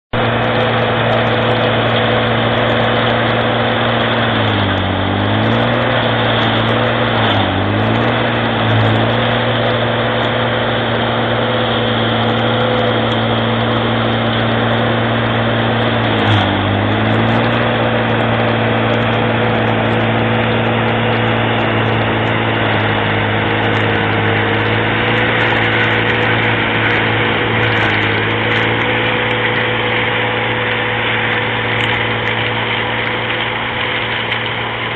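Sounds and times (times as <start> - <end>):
diesel engine running hard: 0.0 - 34.9
mulcher rotor shredding brush: 0.0 - 34.9.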